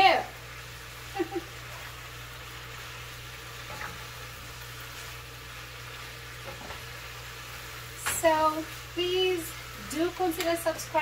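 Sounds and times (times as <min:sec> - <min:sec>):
stir-fry sizzling in a pan: 0:00.0 - 0:11.0.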